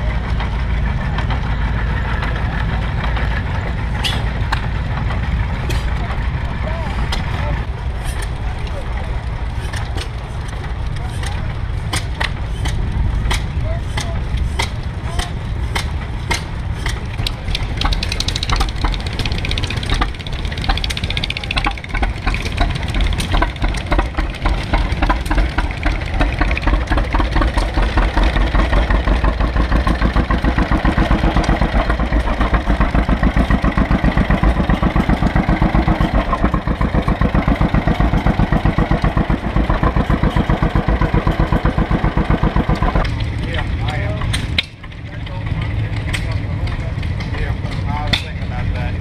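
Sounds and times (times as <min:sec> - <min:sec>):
tractor engine idling: 0:00.0 - 0:49.0.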